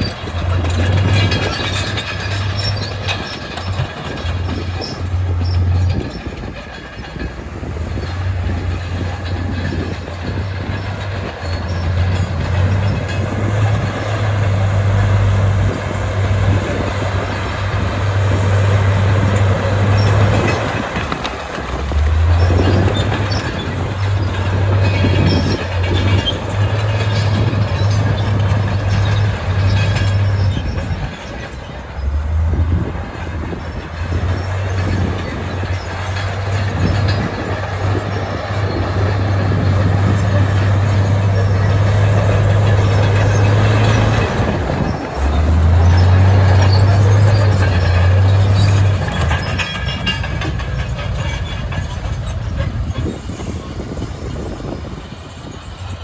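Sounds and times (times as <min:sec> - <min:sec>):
bulldozer diesel engine droning: 0:00.0 - 0:56.0
steel tracks clanking and grinding: 0:00.0 - 0:56.0.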